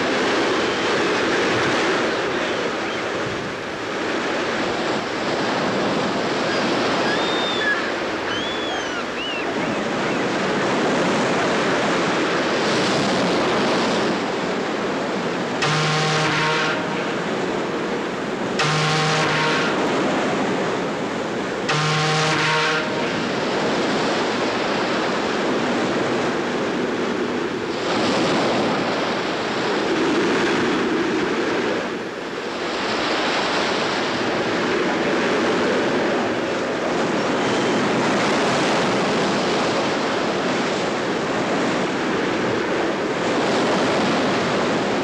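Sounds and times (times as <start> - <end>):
breaking waves: 0.0 - 45.0.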